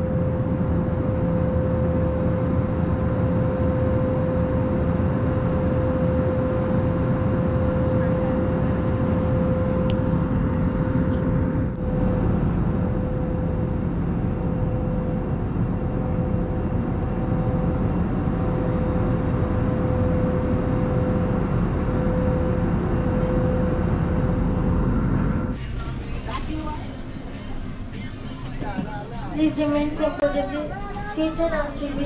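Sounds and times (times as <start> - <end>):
jet cabin rumble: 0.0 - 32.0
steady mid-pitched whine: 0.0 - 32.0.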